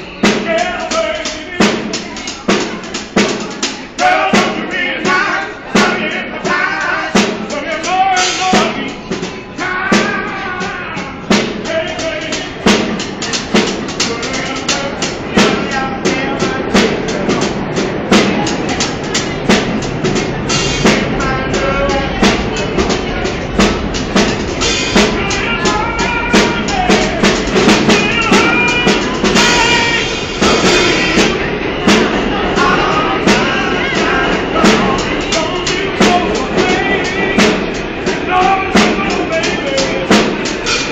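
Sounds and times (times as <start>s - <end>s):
drum kit beat: 0.0s - 40.9s
person singing: 0.0s - 40.9s.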